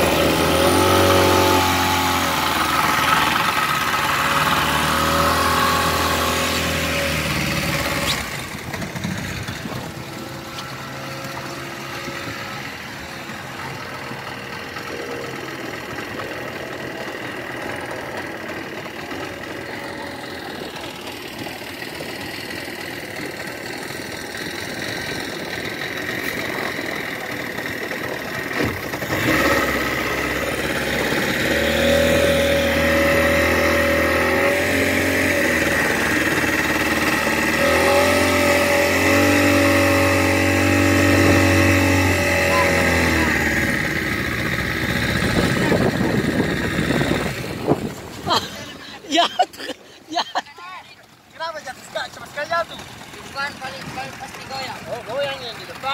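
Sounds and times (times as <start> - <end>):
speedboat engine: 0.0 - 55.9.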